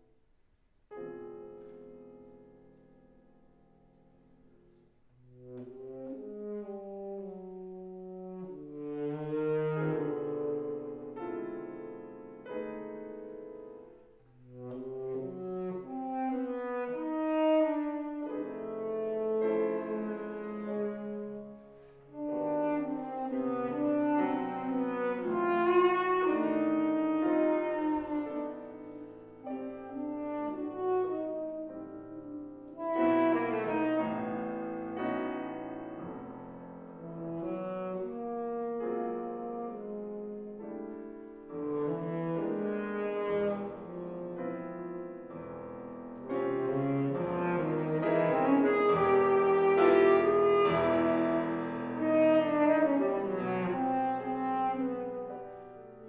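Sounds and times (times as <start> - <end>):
piano accompaniment: 0.0 - 56.0
tenor saxophone melody: 5.2 - 56.0.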